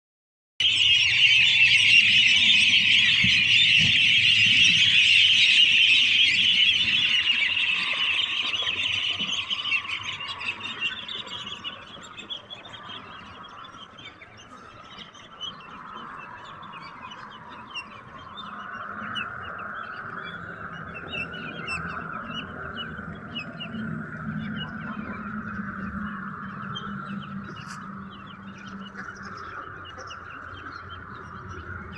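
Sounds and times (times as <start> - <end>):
ducklings calling: 0.6 - 31.9.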